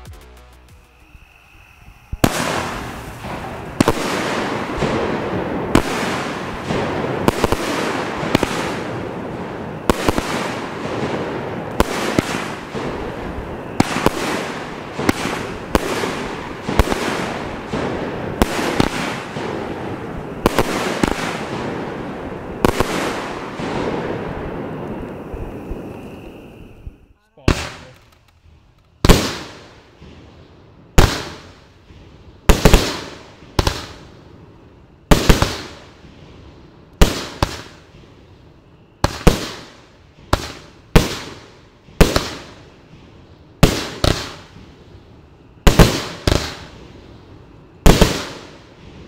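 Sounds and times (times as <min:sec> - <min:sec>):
hiss and crackle of burning stars: 0:00.0 - 0:49.0
firework bangs: 0:00.7 - 0:49.0.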